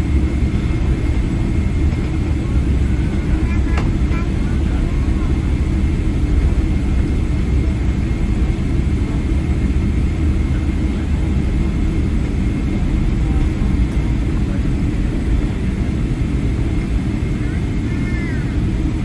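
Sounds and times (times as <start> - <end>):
aircraft cabin rumble: 0.0 - 19.0.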